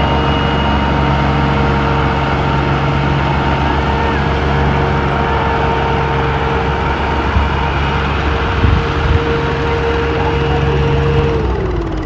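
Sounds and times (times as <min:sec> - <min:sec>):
steady whine: 0:00.0 - 0:12.0
tractor diesel engines running: 0:00.0 - 0:12.0.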